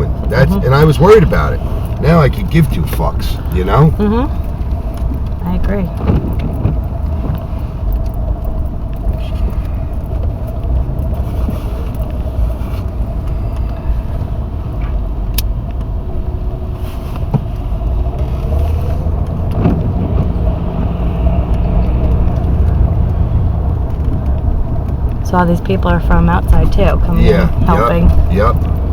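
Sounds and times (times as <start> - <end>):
engine and tyre rumble: 0.0 - 28.9.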